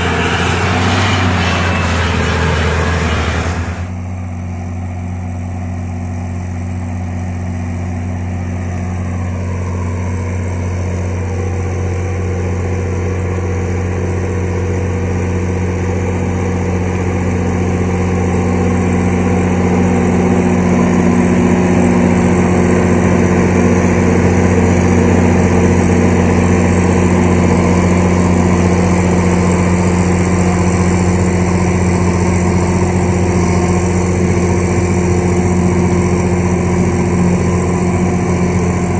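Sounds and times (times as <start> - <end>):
tractor diesel engine droning: 0.0 - 38.9.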